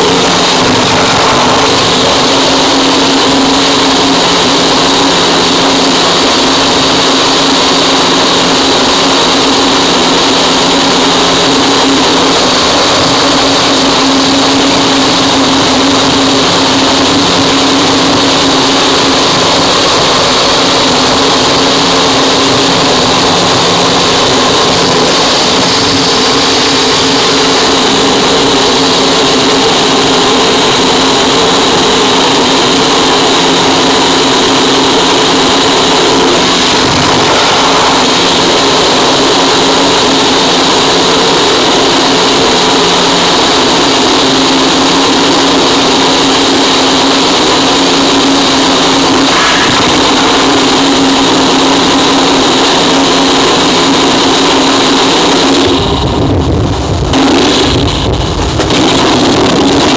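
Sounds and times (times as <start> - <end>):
distorted static noise: 0.0 - 59.9
high band of noise: 0.0 - 59.9
low hum: 0.0 - 59.9.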